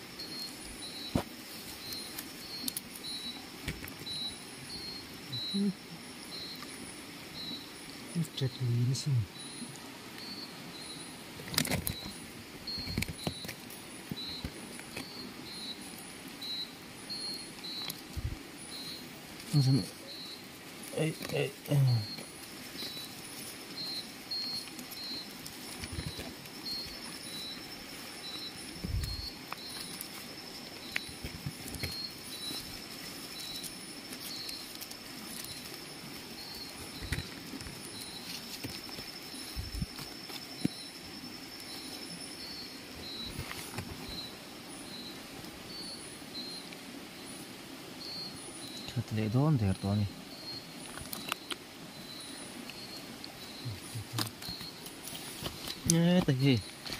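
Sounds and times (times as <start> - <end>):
high-pitched insect drone: 0.0 - 11.3, 11.9 - 47.3
steady hiss: 0.0 - 56.9.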